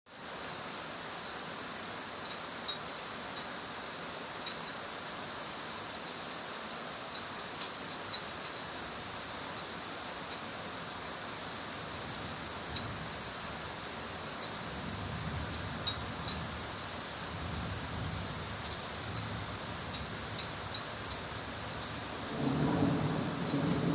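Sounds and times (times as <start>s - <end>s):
heavy rain hissing: 0.1s - 23.9s.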